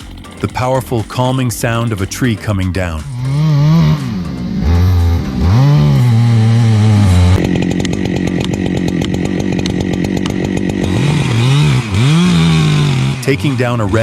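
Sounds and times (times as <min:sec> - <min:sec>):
chainsaw running at high revs: 0:00.0 - 0:14.0.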